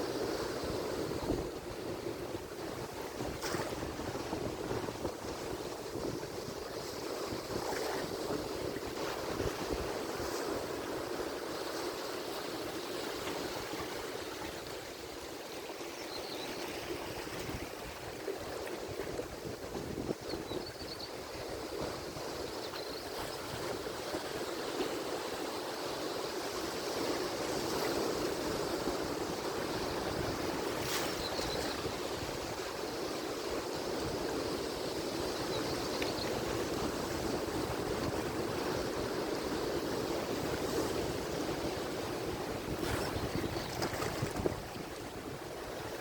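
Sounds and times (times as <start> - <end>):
waves breaking on shore: 0.0 - 46.0.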